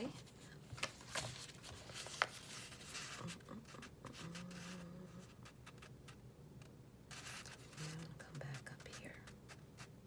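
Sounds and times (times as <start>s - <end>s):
paper rustling and rubbing: 0.0s - 6.2s, 7.1s - 9.9s.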